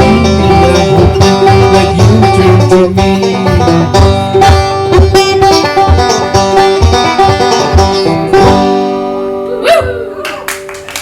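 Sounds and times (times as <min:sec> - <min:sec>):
plucked and strummed strings: 0:00.0 - 0:09.6.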